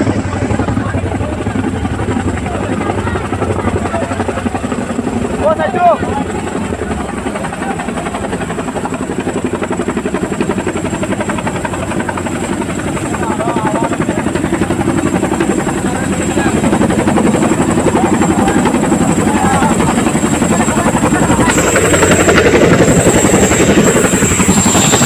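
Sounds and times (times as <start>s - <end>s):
helicopter rotors beating: 0.0s - 25.0s.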